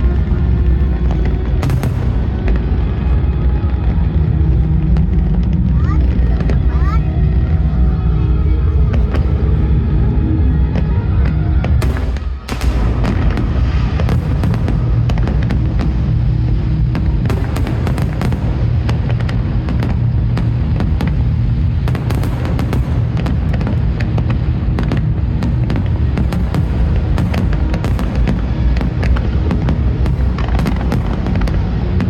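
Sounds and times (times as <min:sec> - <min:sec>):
deep fireworks booms: 0:00.0 - 0:32.0
fireworks bangs and crackles: 0:00.0 - 0:32.0
music playing: 0:00.0 - 0:32.0.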